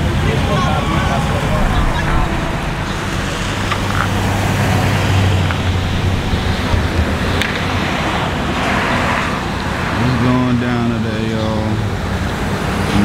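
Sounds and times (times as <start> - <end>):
low engine drone: 0.0 - 11.0
road traffic passing: 0.0 - 13.0.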